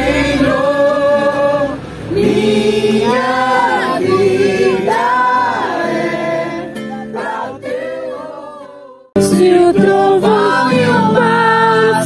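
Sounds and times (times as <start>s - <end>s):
group singing worship song: 0.0s - 12.0s.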